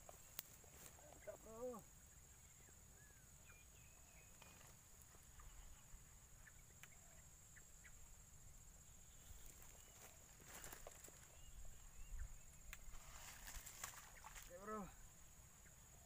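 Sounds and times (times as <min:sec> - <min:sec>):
faint bird chirps: 0:00.2 - 0:16.0.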